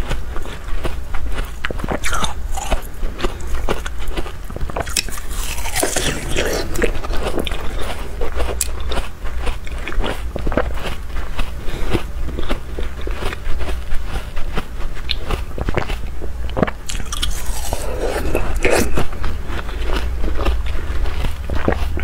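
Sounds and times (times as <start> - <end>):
chewing ice crunching: 0.0 - 22.0.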